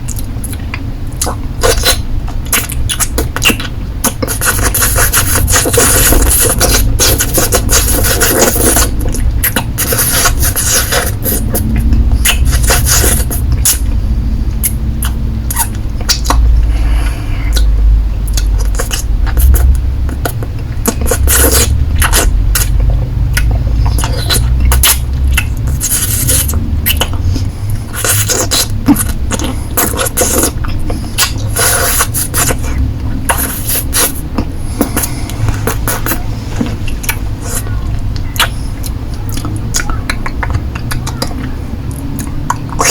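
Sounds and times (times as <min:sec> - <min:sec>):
lollipop sucking and licking: 0:01.2 - 0:13.9, 0:14.6 - 0:16.8, 0:17.4 - 0:27.2, 0:27.8 - 0:37.7
low rumble: 0:05.3 - 0:42.8.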